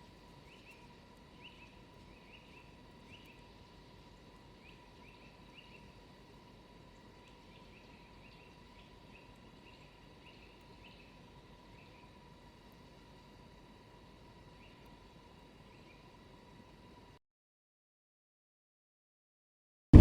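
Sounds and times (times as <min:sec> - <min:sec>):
background hiss: 0:00.0 - 0:17.2
faint steady tone: 0:00.0 - 0:17.2.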